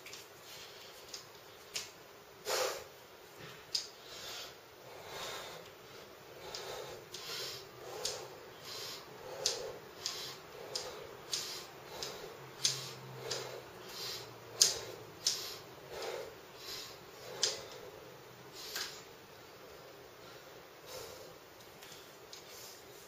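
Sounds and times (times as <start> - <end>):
man breathing hard: 2.4 - 23.0.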